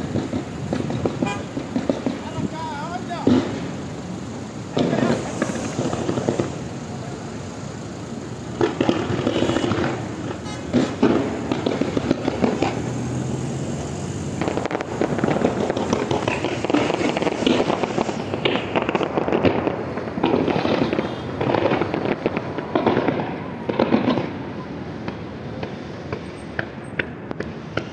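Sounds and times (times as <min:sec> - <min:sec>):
fireworks bangs: 0:00.0 - 0:27.9
fireworks crackling pops: 0:00.0 - 0:27.9.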